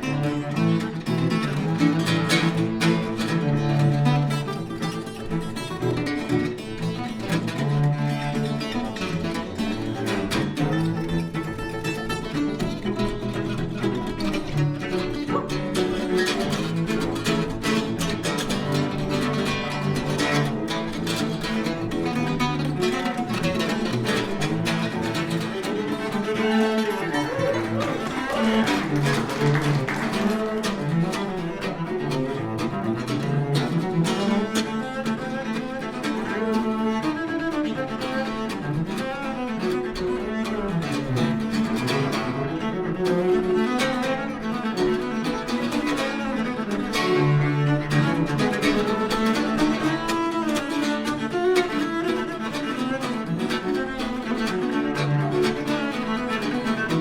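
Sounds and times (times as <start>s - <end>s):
bowed cello: 0.0s - 57.0s
picked mandolin notes: 0.0s - 57.0s.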